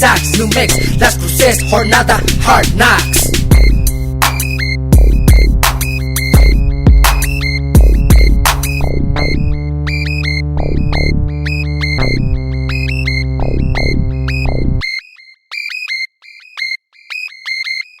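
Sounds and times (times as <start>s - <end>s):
synthesizer bass and chords: 0.0s - 14.9s
high repeating synth melody: 0.0s - 18.0s.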